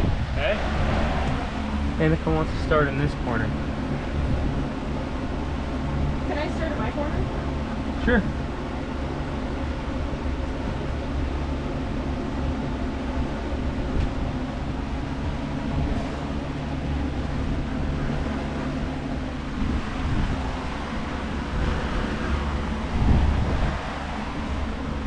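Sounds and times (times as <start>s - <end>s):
low mechanical engine drone: 0.0s - 25.0s.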